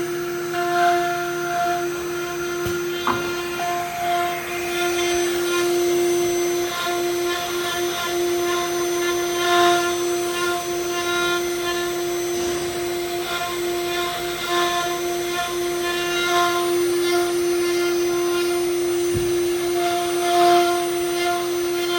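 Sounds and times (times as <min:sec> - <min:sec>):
router spindle high whine: 0:00.0 - 0:21.9.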